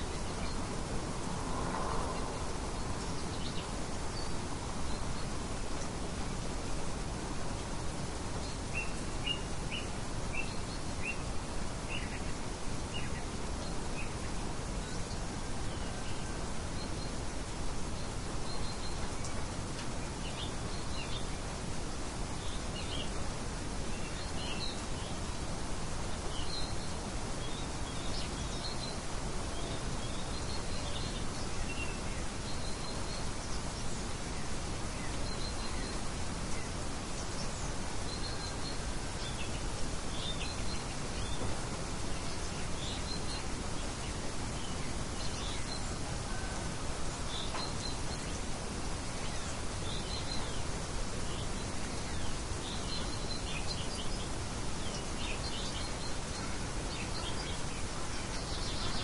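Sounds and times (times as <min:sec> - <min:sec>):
small birds chirping: 0:00.0 - 0:59.0
wind: 0:00.0 - 0:59.0.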